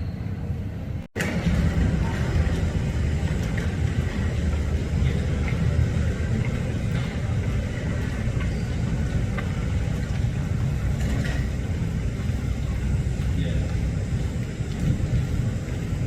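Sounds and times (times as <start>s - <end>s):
aircraft engines rumbling: 0.0s - 16.0s.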